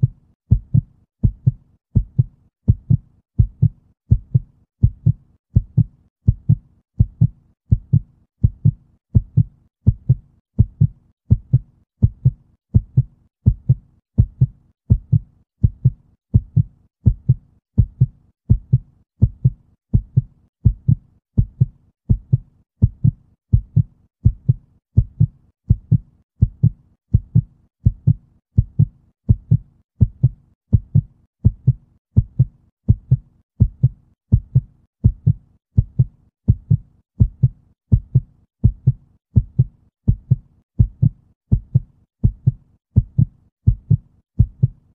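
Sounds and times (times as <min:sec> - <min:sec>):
heartbeat thumps: 0:00.0 - 0:44.9.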